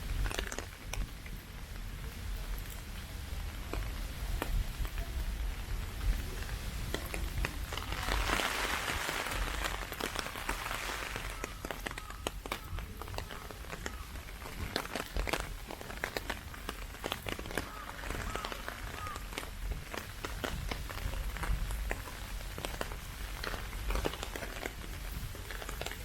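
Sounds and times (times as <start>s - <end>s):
rain drop ticks: 0.0s - 26.0s
heavy rain hissing: 1.4s - 26.0s.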